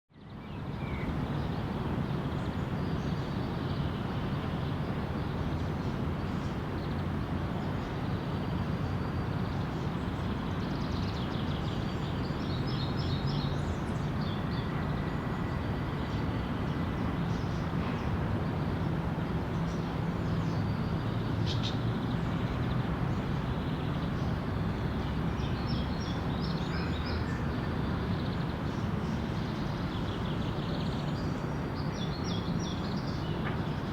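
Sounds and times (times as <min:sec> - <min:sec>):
small birds chirping: 0:00.2 - 0:18.1, 0:18.8 - 0:33.9
traffic rumble: 0:00.6 - 0:33.9.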